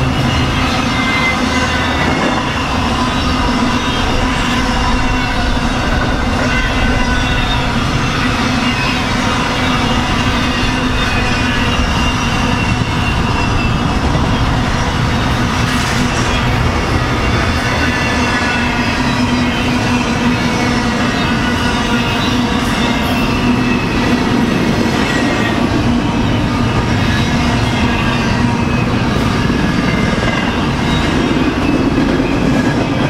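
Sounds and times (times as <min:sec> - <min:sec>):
freight train wheels rumbling on rail: 0:00.0 - 0:33.0.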